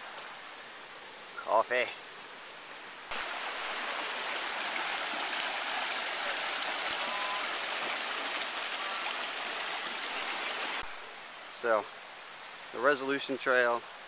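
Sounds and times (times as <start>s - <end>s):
outdoor hiss: 0.0s - 14.0s
stream rushing over stones: 2.7s - 14.0s.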